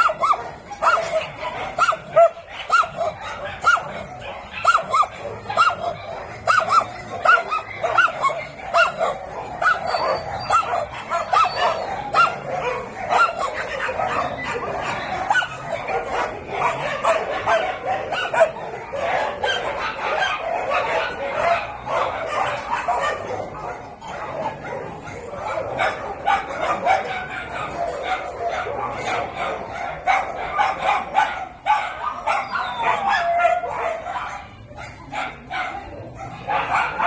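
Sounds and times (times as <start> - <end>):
dogs barking and yipping: 0.0 - 37.0.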